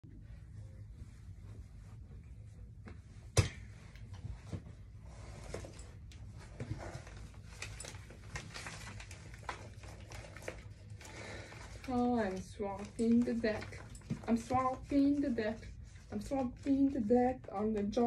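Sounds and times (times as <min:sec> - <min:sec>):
soft rustling: 0:00.1 - 0:17.8.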